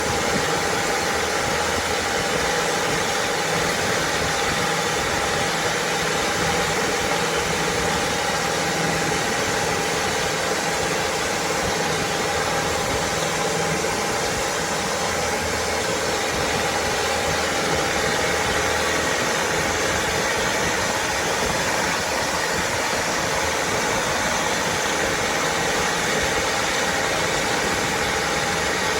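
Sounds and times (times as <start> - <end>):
boat engine running: 0.0 - 28.9.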